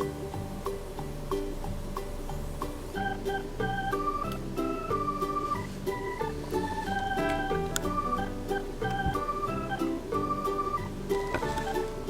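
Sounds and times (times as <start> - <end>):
keyboard melody: 0.0 - 12.0.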